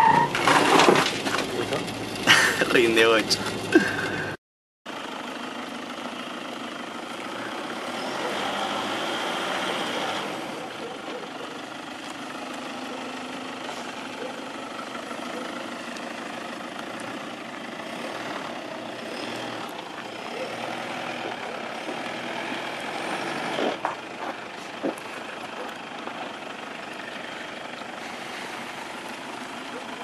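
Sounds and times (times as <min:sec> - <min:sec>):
tyre and road noise: 0:00.0 - 0:30.0
pickup truck engine running: 0:01.1 - 0:30.0.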